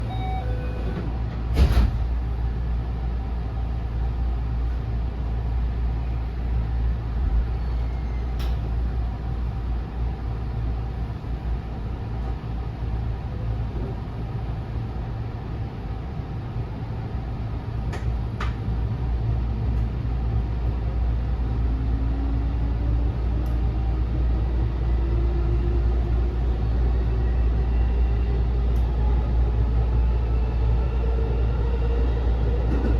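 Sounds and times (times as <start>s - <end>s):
train low rumble: 0.0s - 32.9s.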